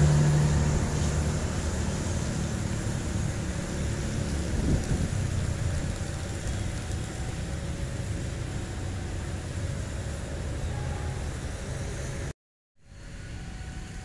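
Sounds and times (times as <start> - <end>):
passenger train rumbling on rails: 0.0 - 12.3, 12.9 - 14.0.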